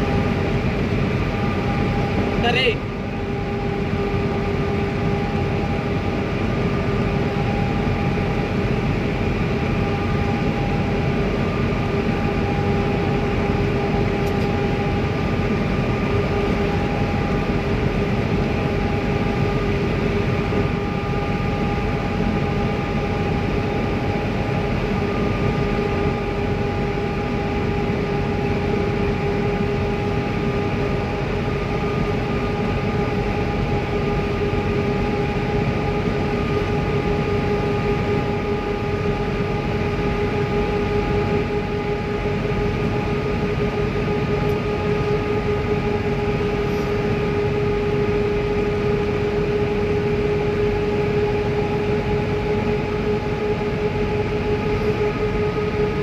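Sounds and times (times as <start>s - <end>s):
constant droning hum: 0.0s - 56.0s
vehicle engine and road rumble: 0.0s - 56.0s.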